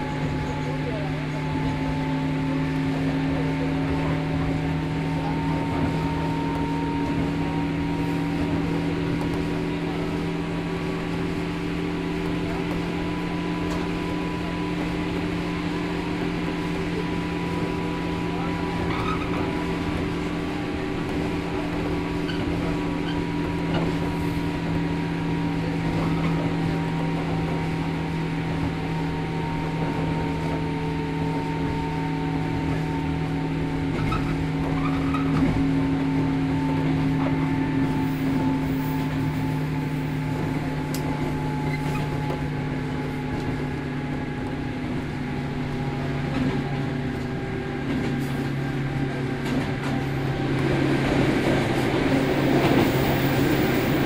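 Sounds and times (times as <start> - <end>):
train motors whining: 0.0 - 54.0
train running gear rumble: 0.0 - 54.0.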